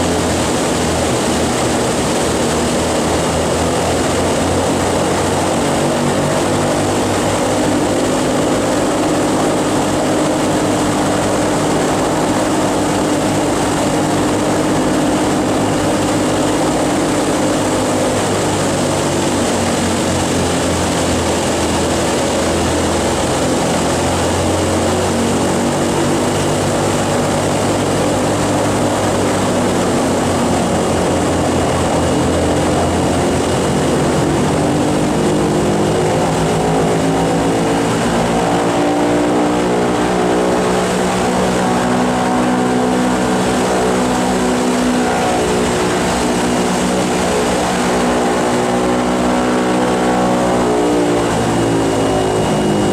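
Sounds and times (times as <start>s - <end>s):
propeller engines running: 0.0s - 52.9s.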